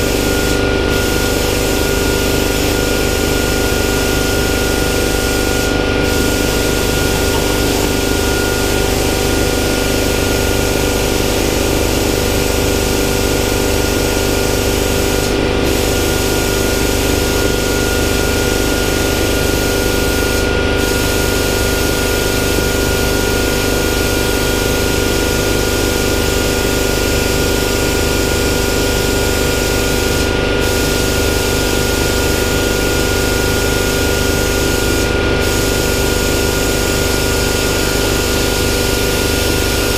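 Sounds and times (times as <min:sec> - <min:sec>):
plasma cutter hiss and whine: 0:00.1 - 0:39.9.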